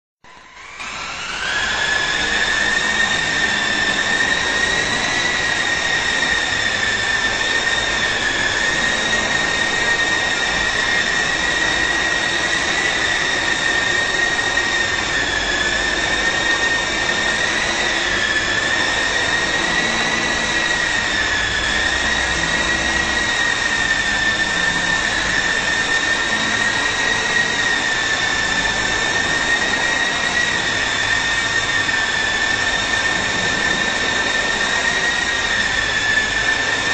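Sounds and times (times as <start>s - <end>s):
remote-control helicopter whine: 0.3s - 36.9s.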